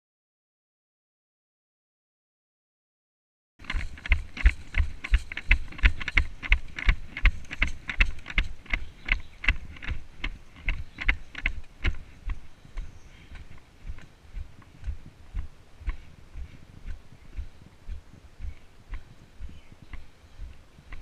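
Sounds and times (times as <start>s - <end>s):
rhythmic deep thuds with clicks: 3.6s - 21.0s.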